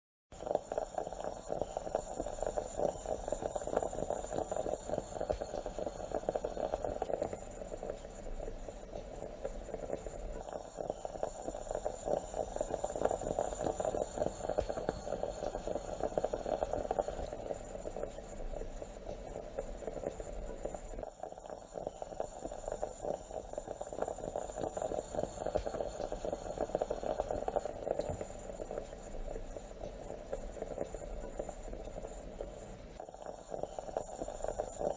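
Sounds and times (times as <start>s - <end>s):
moka pot gurgling and sputtering: 0.3s - 34.9s.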